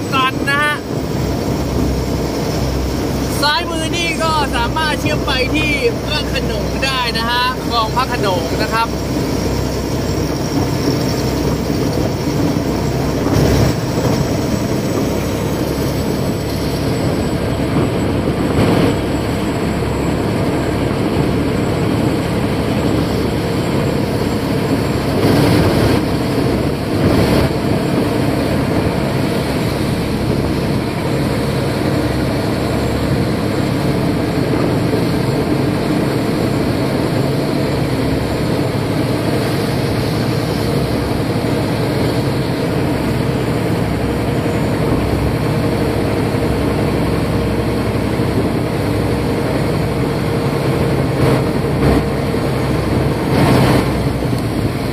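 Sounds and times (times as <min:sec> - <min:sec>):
boat diesel engine drone: 0:00.0 - 0:54.9
water churning in wake: 0:00.0 - 0:54.9.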